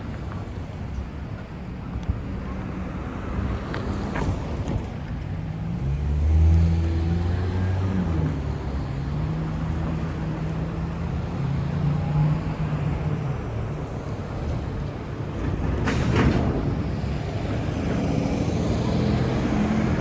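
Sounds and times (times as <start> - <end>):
bus engine passing: 2.4 - 20.0.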